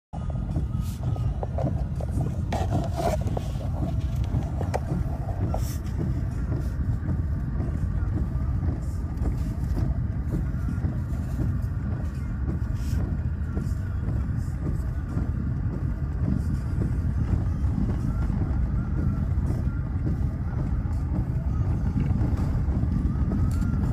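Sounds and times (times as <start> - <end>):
car engine and tyre rumble: 0.1 - 23.9
windscreen wipers sweeping: 0.2 - 23.9.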